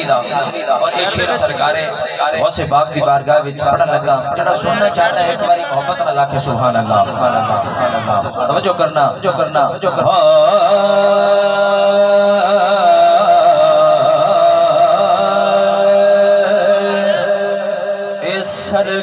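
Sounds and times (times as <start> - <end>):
man singing through loudspeaker: 0.0 - 19.0.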